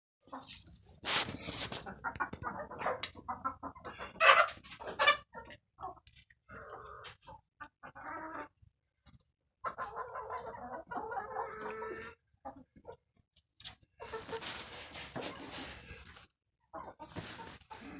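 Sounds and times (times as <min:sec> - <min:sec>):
chickens clucking: 0:00.3 - 0:08.7, 0:09.6 - 0:13.0, 0:13.6 - 0:17.9.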